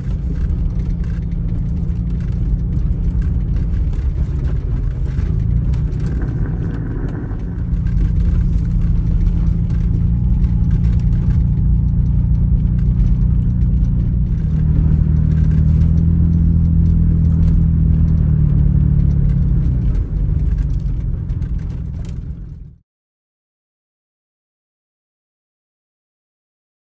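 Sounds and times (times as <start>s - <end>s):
low engine drone: 0.0s - 22.8s
road rumble: 0.0s - 22.8s.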